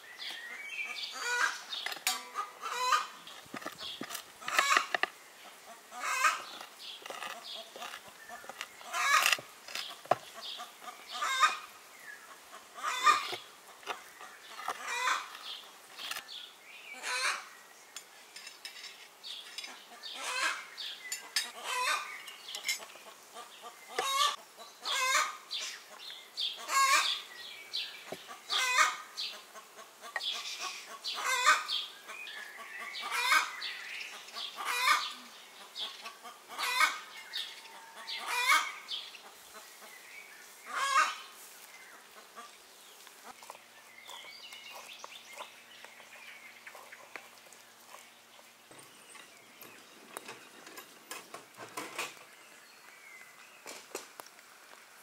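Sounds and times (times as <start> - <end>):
chickens clucking: 0.2 - 16.2, 16.9 - 17.5, 19.4 - 52.3.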